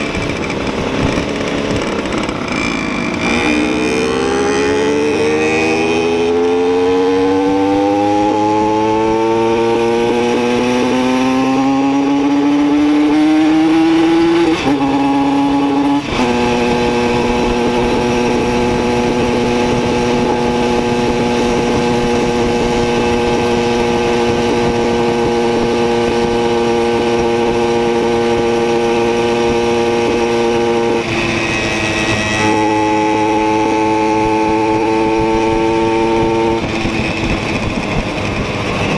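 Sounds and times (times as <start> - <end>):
moped engine accelerating: 0.0 - 38.9.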